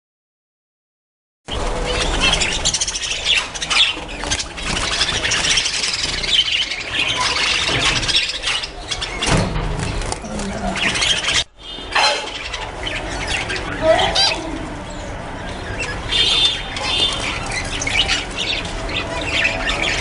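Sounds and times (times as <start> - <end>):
budgerigars chattering and squawking: 1.5 - 20.0.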